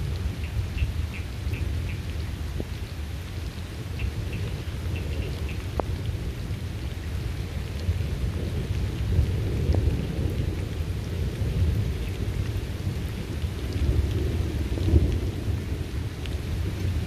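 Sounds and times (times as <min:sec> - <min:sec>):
low rumble of thunder: 0:00.0 - 0:17.0
steady rain: 0:00.0 - 0:17.0.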